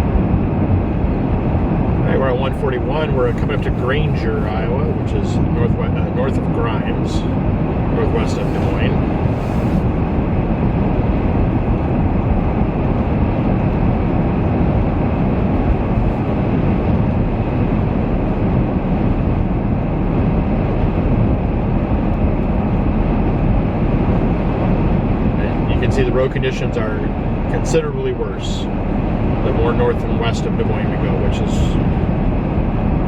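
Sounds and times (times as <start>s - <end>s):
road and wind noise: 0.0s - 33.0s.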